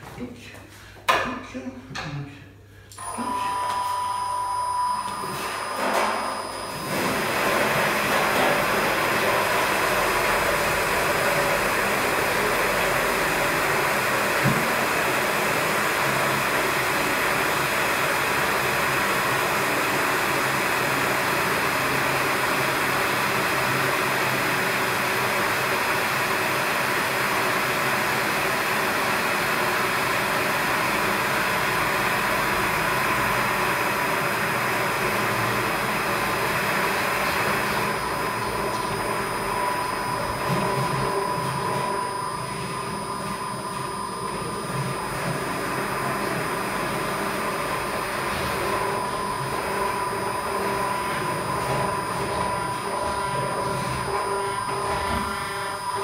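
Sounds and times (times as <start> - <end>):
electric pump rushing and whining: 3.0 - 56.0.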